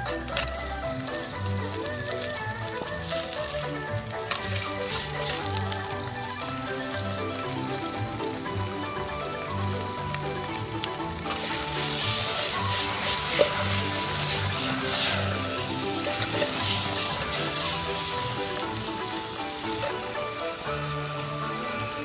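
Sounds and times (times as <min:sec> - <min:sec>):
background music: 0:00.0 - 0:22.0
food sizzling in a hot pan: 0:00.0 - 0:22.0.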